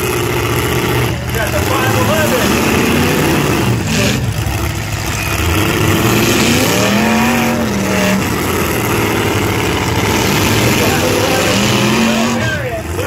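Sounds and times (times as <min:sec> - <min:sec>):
truck engines revving: 0:00.0 - 0:13.0
drawn-out rising tone: 0:01.7 - 0:12.7.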